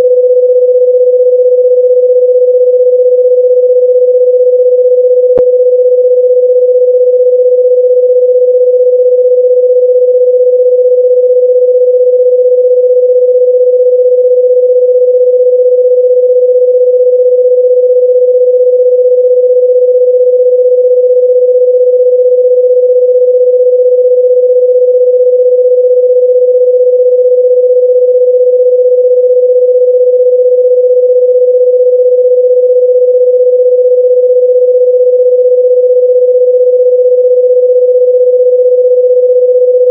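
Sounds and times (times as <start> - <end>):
steady sine-wave beep: 0.0 - 39.9.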